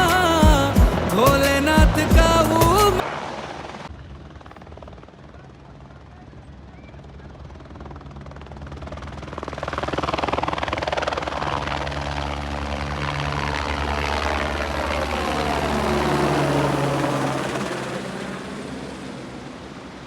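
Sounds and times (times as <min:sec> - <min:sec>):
helicopter engine whine: 0:00.0 - 0:20.0
helicopter rotor blades beating: 0:00.0 - 0:20.0.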